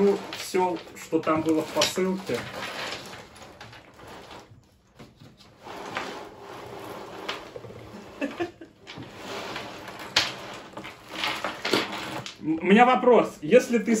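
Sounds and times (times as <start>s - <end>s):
plastic bags rustling: 0.0s - 12.7s
plastic toys clattering: 0.0s - 12.8s.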